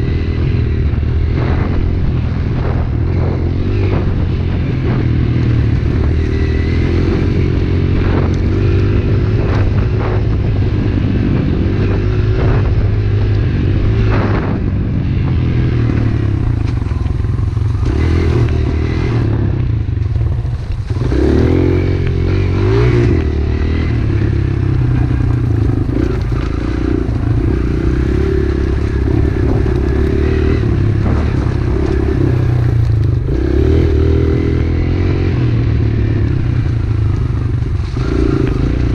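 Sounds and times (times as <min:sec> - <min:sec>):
small motorcycle engine revving: 0:00.0 - 0:38.9.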